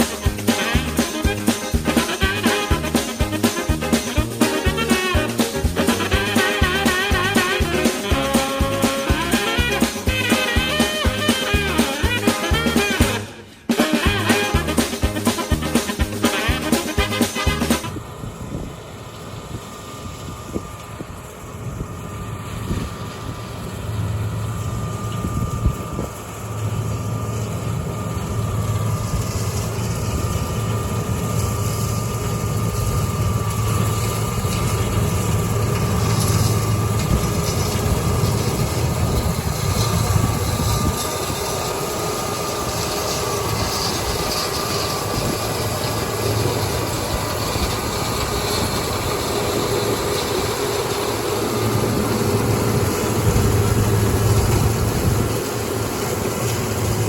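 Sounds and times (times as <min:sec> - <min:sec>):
faint steady whine: 0:00.0 - 0:57.0
farm machinery engine rumbling: 0:00.0 - 0:57.0.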